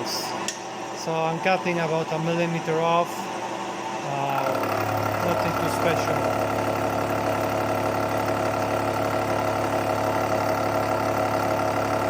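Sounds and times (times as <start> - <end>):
milling machine cutting metal: 1.2 - 12.0.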